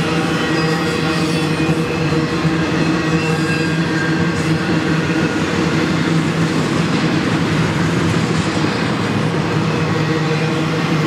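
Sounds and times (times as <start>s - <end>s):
steel wheels rumbling on rail: 0.0s - 11.0s.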